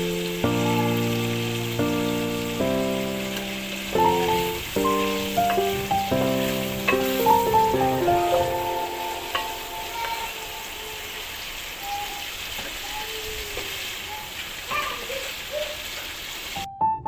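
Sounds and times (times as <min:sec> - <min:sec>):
chicken sizzling in a pan: 0:00.0 - 0:16.7.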